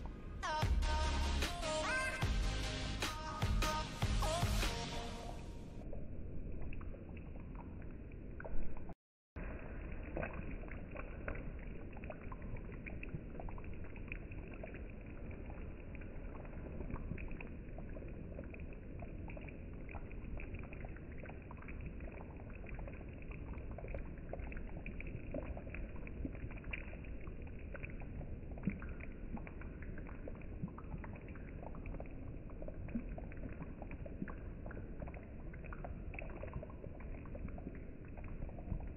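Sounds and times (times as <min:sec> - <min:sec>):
curry bubbling in a pan: 0:03.4 - 0:38.9.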